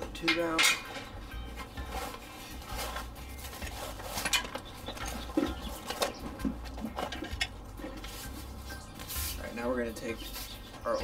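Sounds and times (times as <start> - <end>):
rubber tube rubbing and scraping: 0.9 - 10.7.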